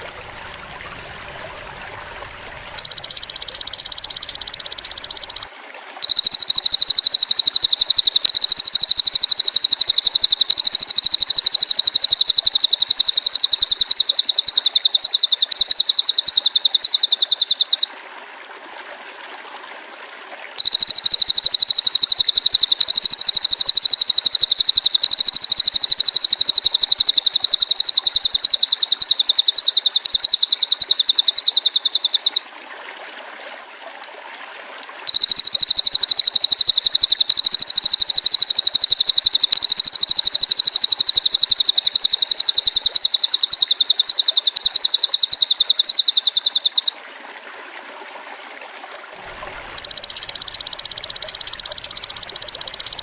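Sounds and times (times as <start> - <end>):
bird rapid pulsed trill: 2.8 - 17.9, 20.6 - 32.4, 35.1 - 46.9, 49.3 - 53.0.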